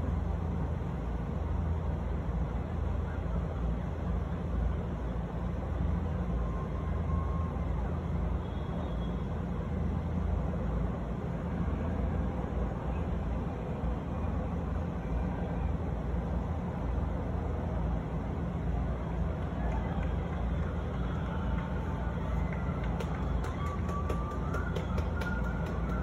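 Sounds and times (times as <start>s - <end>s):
distant city traffic rumble: 0.0s - 26.0s.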